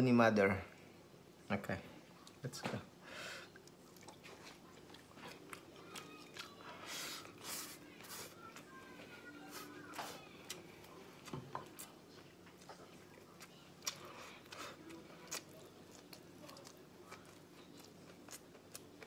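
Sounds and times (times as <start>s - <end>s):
faint steady hum: 0.0s - 19.0s
mouth sounds of chewing: 3.5s - 19.0s.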